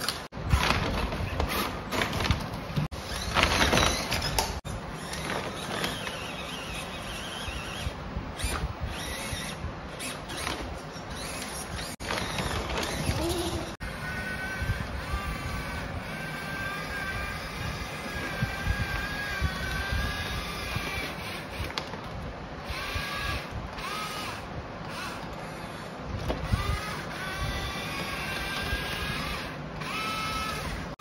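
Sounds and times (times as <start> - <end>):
toy excavator motors whining: 2.9 - 21.9, 22.6 - 31.0.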